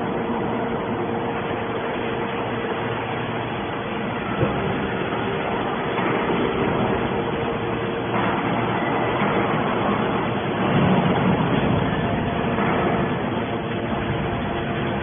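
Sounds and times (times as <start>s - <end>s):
constant low tone: 0.0s - 15.0s
hydraulic baler machine hum: 0.0s - 15.0s.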